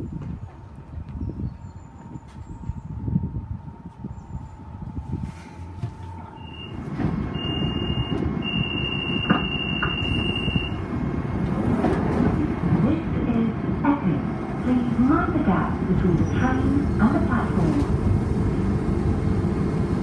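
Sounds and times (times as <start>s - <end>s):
train low running rumble: 0.0s - 20.0s.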